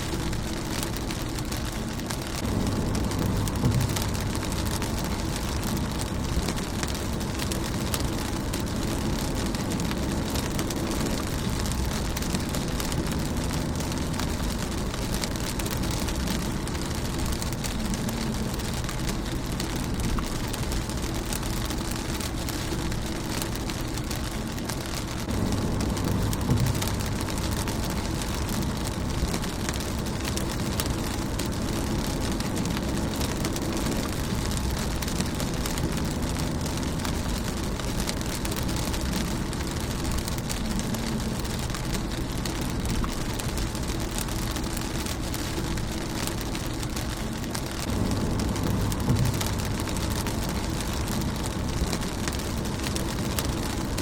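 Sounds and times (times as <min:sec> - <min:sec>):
low rumble: 0:00.0 - 0:54.0
rain on car windscreen: 0:00.0 - 0:54.0.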